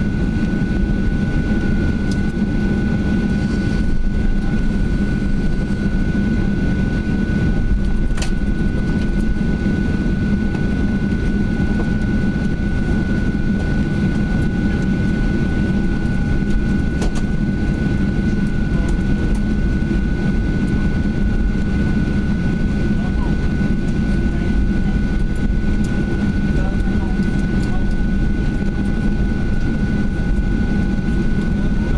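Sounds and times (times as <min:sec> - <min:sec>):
airplane cabin rumble: 0:00.0 - 0:31.9
thin steady whine: 0:00.0 - 0:31.9.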